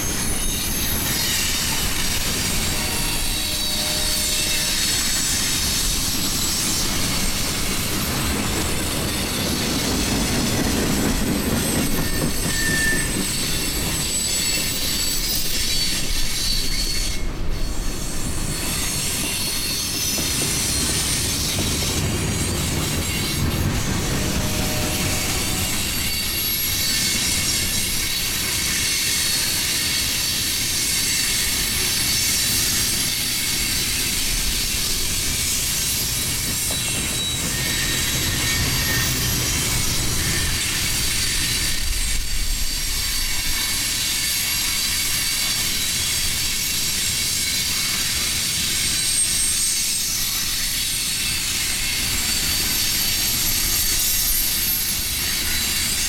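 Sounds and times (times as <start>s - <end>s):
freight train cars rolling: 0.0s - 56.0s
high wheel squeal: 0.0s - 56.0s.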